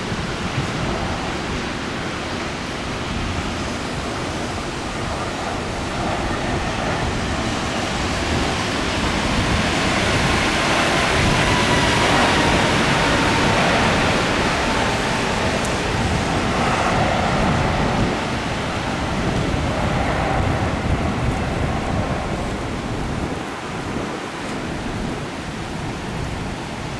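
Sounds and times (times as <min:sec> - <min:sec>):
heavy rain: 0:00.0 - 0:26.9.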